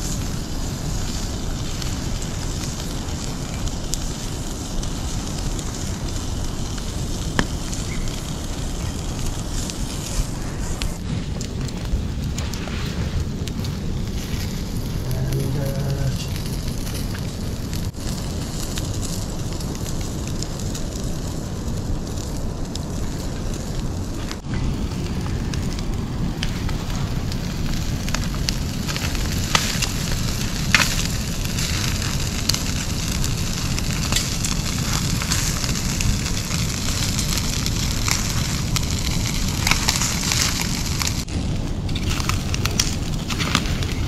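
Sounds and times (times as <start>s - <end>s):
low rumble: 0.0s - 44.0s
wood fire crackling and popping: 0.0s - 44.0s.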